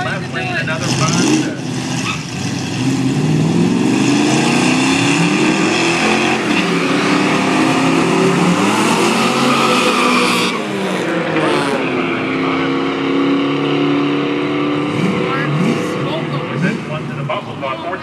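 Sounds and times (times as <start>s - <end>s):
engine revving high: 0.6s - 17.7s.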